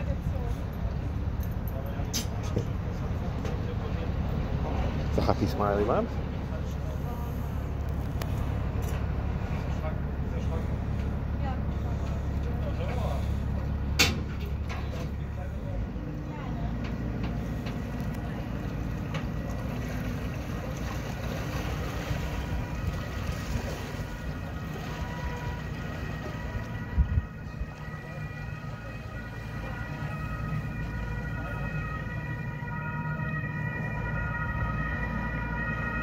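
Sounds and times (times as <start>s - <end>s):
boat engine rumbling: 0.0s - 36.0s.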